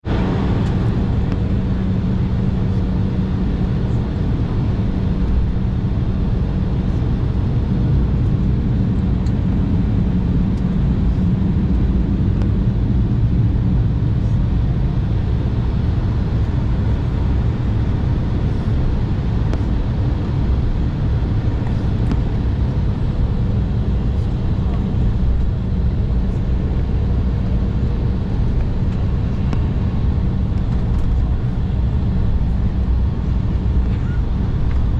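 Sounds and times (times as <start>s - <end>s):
aircraft cabin engine rumble: 0.0s - 34.9s
low hum: 0.0s - 34.9s.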